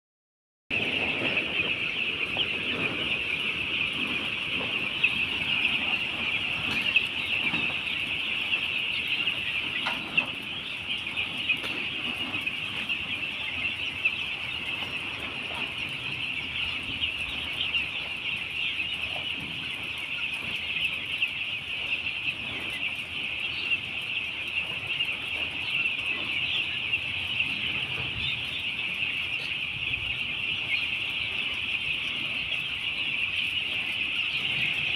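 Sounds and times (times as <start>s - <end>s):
chicks cheeping: 0.7s - 34.9s.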